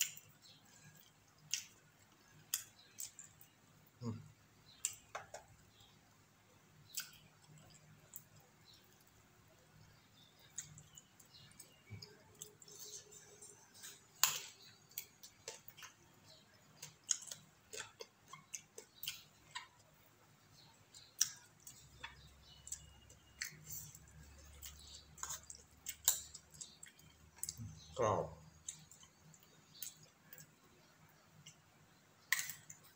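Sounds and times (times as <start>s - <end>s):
chewing and wet mouth noises: 0.0s - 3.6s, 4.7s - 5.9s, 6.8s - 32.9s.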